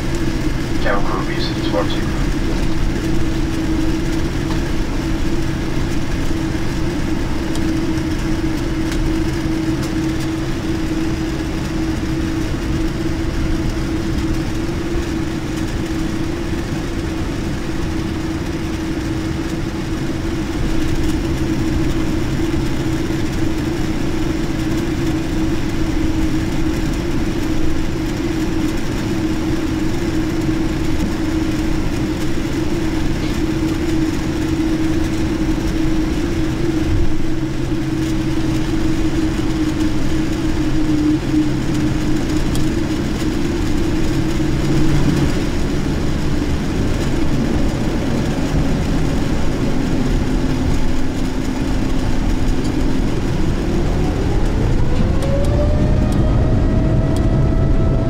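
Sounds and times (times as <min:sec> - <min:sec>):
jet engines idling heard from cabin: 0:00.0 - 0:58.0.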